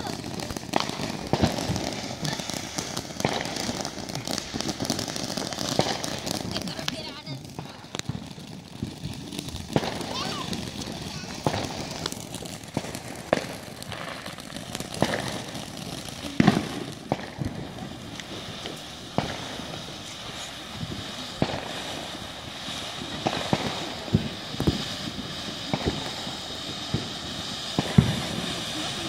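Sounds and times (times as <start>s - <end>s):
firework pops and bangs: 0.0s - 29.0s
fountain firework hissing: 0.0s - 29.0s.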